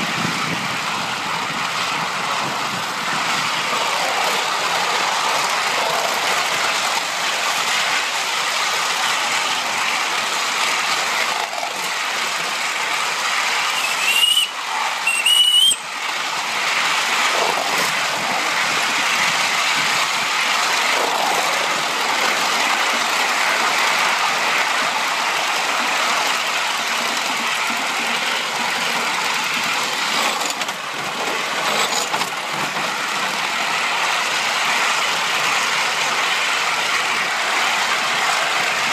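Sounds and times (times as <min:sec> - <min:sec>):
model steam locomotive running: 0:00.0 - 0:38.9.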